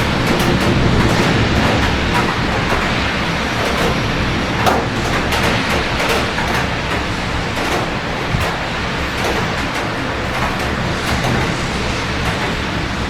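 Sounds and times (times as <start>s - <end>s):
city traffic rumble: 0.0s - 13.0s
rain falling: 0.0s - 13.0s.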